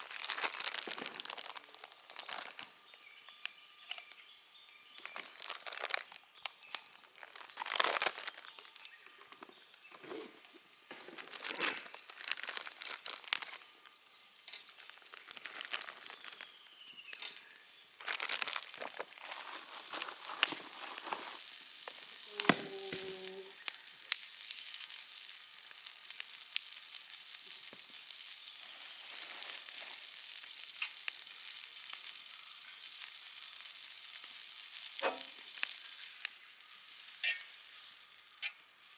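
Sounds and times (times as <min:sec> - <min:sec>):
food package crinkling: 0:00.0 - 0:04.2, 0:04.9 - 0:38.9
food sizzling in a hot pan: 0:00.0 - 0:38.9.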